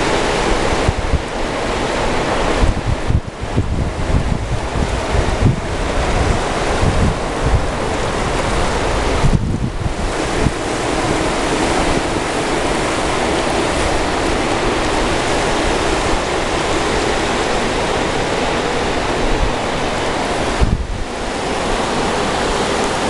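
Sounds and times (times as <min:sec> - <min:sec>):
waves washing against rocky shore: 0:00.0 - 0:23.0
wind rumbling on microphone: 0:00.0 - 0:23.0.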